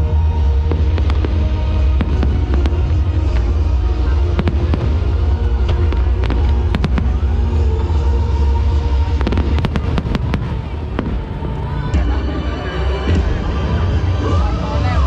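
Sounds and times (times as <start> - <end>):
fireworks bangs and crackles: 0.0 - 15.0
music with heavy bass: 0.0 - 15.0.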